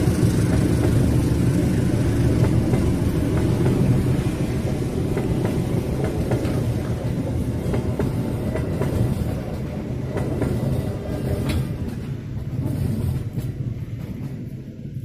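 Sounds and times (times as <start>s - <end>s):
wheels clacking over rail joints: 0.0s - 14.8s
train coaches rumbling past: 0.0s - 15.0s.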